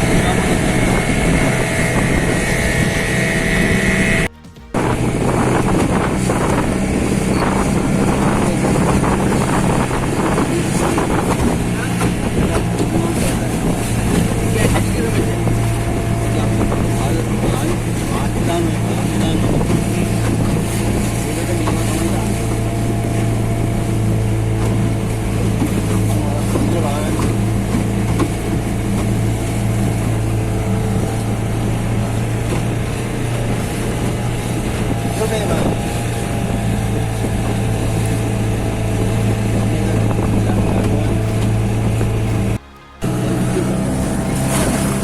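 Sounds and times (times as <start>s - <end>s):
motorboat engine droning: 0.0s - 45.0s.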